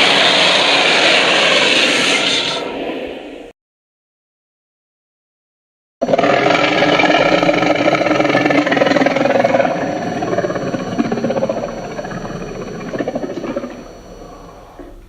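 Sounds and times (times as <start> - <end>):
dragon roar: 0.0 - 3.3, 6.0 - 15.0.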